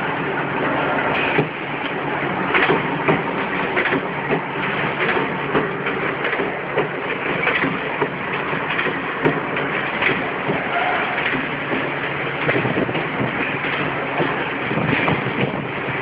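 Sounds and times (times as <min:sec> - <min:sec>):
steady machine noise: 0:00.0 - 0:16.0
press sharp clanks: 0:01.1 - 0:15.6.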